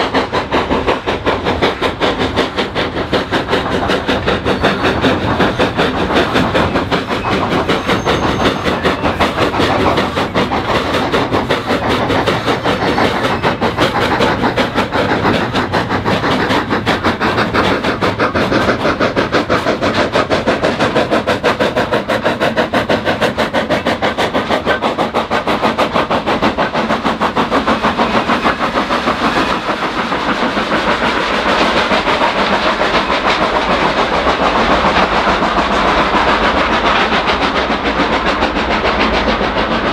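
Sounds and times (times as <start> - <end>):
steam locomotive working: 0.0 - 39.9
wagons rattling over track: 0.0 - 39.9.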